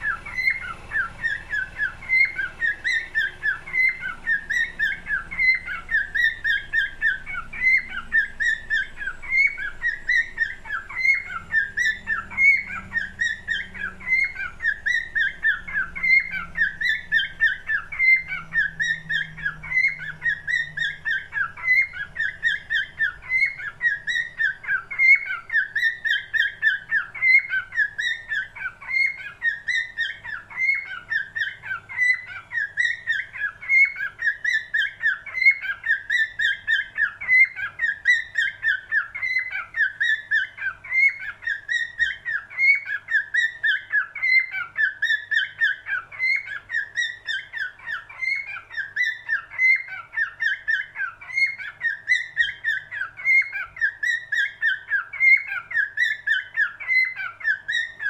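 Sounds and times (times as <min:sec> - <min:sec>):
cockatiel chirps and whistles: 0:00.0 - 0:58.0.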